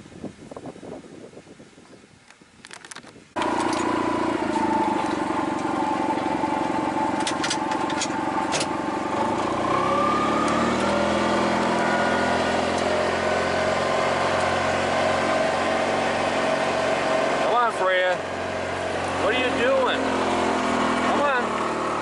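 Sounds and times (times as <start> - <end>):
vehicle engine running: 3.4 - 22.0.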